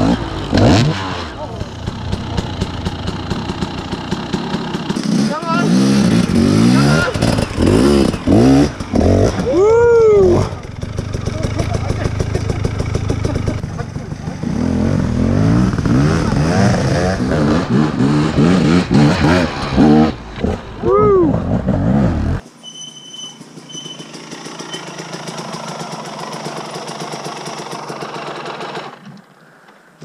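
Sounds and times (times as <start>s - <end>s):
motorcycle engine revving: 0.0s - 22.4s, 23.4s - 29.1s.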